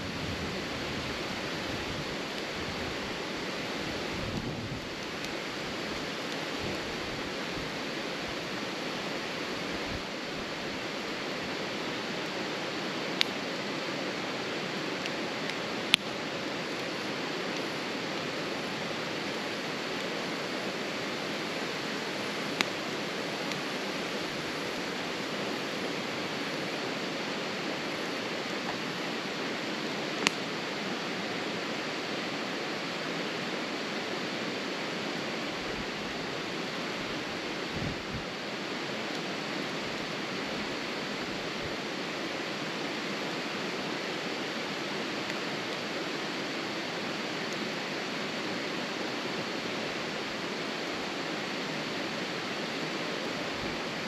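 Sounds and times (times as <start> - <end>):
wood fire burning: 0.0 - 54.0.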